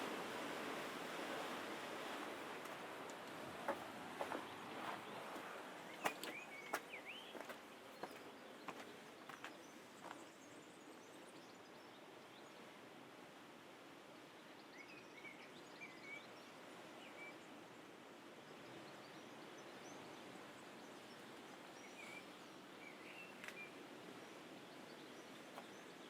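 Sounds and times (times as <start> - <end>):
faint outdoor hiss: 0.0 - 26.0.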